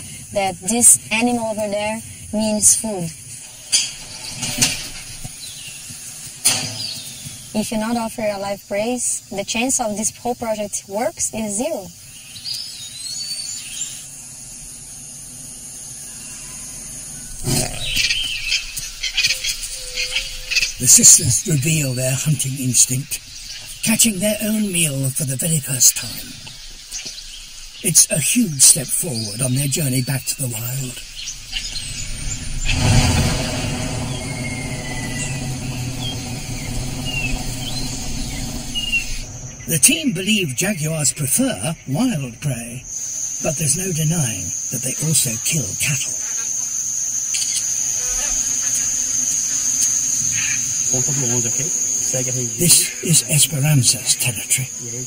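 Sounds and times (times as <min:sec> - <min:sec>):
birds chirping: 0:00.0 - 0:55.0
low background noise: 0:00.0 - 0:55.0
vehicle engine rumble and road noise: 0:00.0 - 0:55.0.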